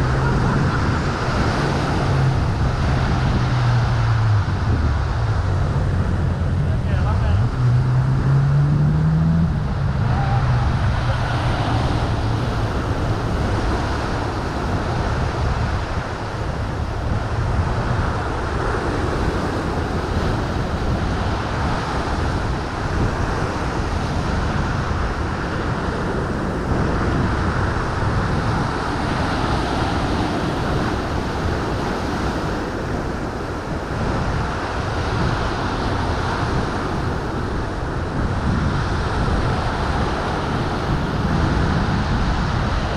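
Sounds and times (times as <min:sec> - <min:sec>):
ocean surf washing onto rocks: 0:00.0 - 0:07.5, 0:09.5 - 0:42.9
wind buffeting microphone: 0:00.0 - 0:42.9.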